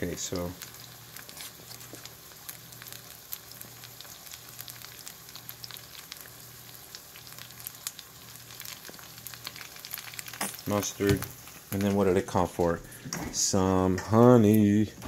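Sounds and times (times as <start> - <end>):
oil sizzling in a frying pan: 0.0 - 12.2.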